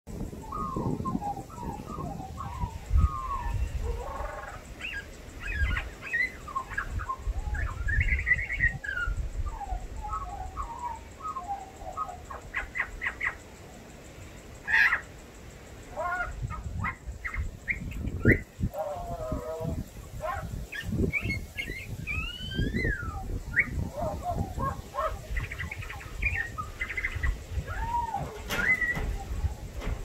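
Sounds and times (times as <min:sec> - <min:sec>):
magpie singing warbles and whistles: 0:00.4 - 0:13.4, 0:16.0 - 0:19.5, 0:20.2 - 0:29.9.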